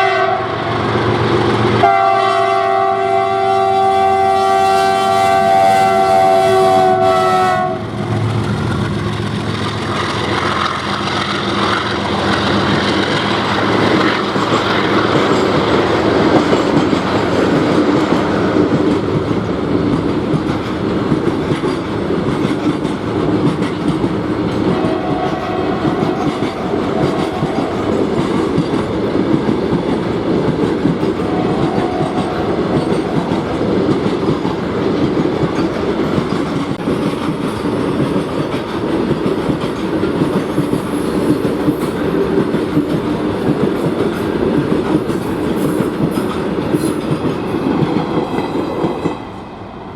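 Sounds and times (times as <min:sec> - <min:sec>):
train wheels clattering over rail joints: 0:07.9 - 0:49.2.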